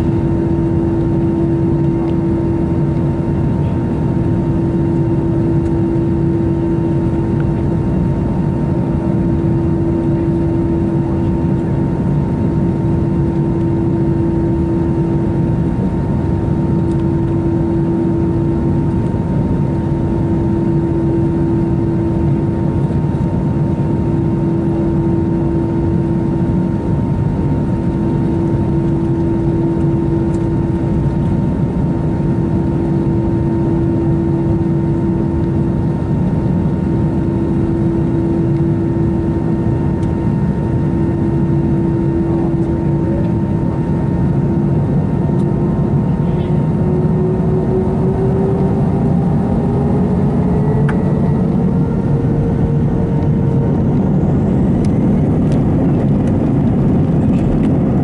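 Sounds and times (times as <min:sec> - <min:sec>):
aircraft cabin air and engine rush: 0:00.0 - 0:58.0
steady cabin hum: 0:00.0 - 0:58.0.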